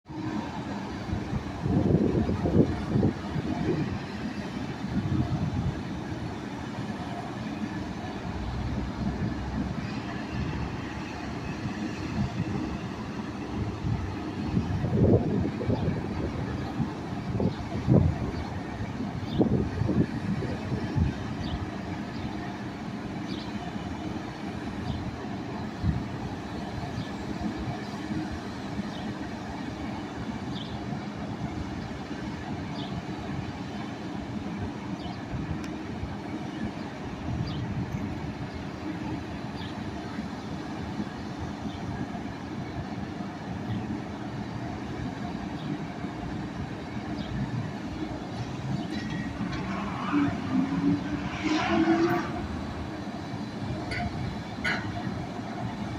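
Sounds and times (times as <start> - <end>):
truck engine drone: 0.1 - 55.9.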